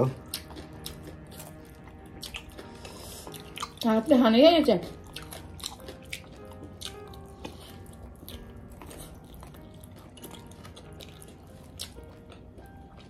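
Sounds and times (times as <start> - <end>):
person chewing fried chicken: 0.1 - 3.8, 4.8 - 13.0.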